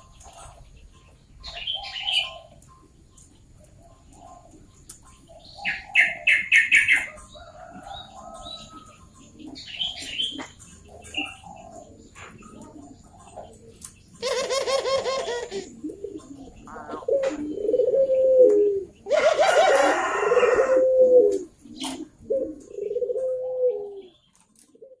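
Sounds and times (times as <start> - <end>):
doves cooing: 0.0 - 25.0.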